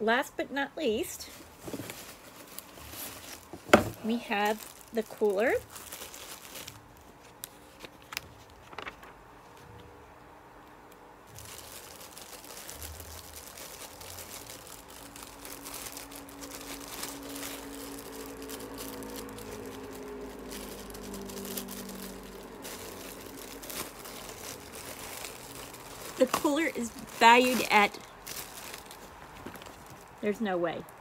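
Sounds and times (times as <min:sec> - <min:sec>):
plastic packaging crinkling: 0:01.1 - 0:09.1, 0:11.2 - 0:30.9.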